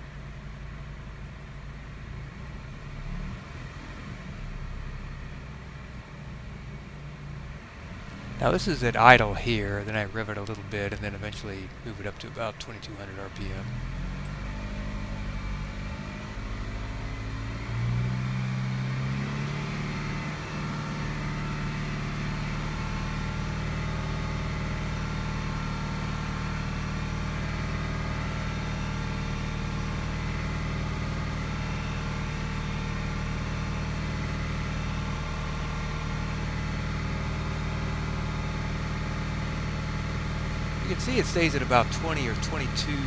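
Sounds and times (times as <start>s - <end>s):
car engine revving: 7.2s - 43.0s.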